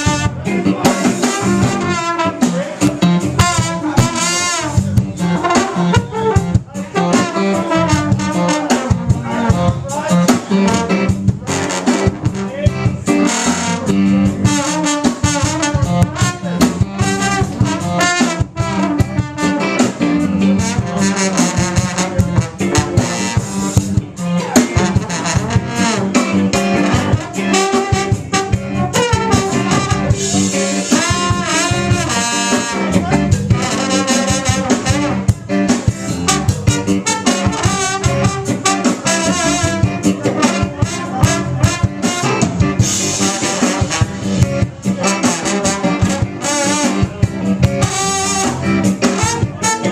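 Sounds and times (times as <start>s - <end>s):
upbeat band music with horns: 0.0s - 49.9s.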